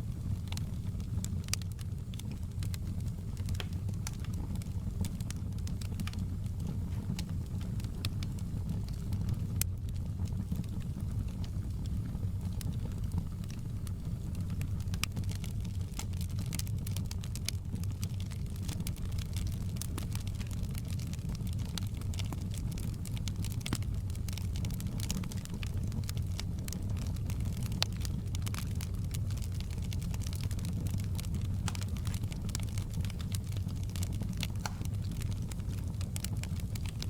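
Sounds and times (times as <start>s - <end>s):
fireplace crackling and popping: 0.0s - 37.0s.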